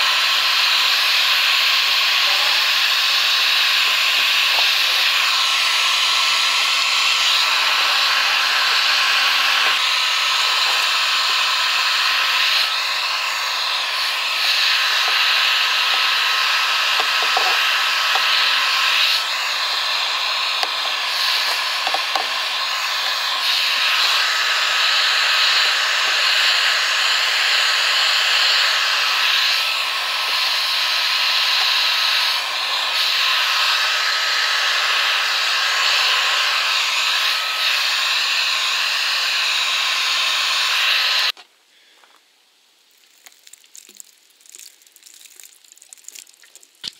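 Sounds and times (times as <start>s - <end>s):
hot air gun blowing: 0.0s - 41.4s.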